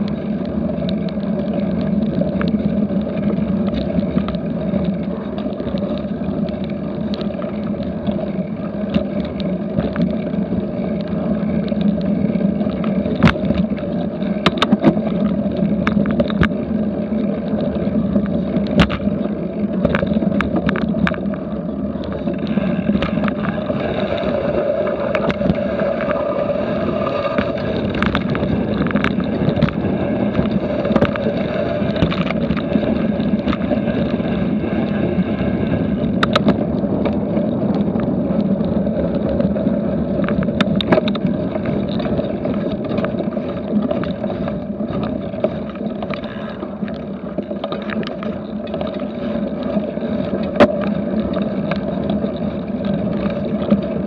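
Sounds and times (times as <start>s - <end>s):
bike clicks and rattles: 0.0s - 54.0s
wind on microphone: 0.0s - 54.0s.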